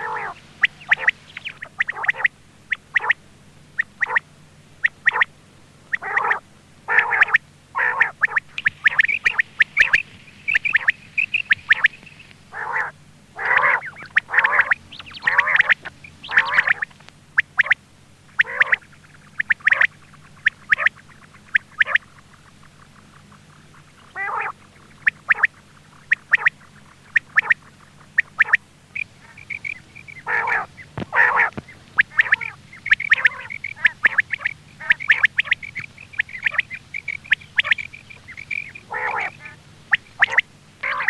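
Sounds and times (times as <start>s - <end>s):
quail calls: 0.0s - 41.0s.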